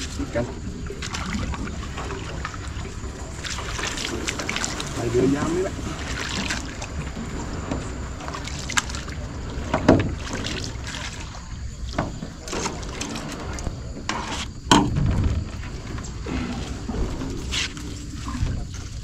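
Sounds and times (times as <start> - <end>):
paddle strokes in water: 0.0 - 19.0
reeds brushing along hull: 0.0 - 19.0.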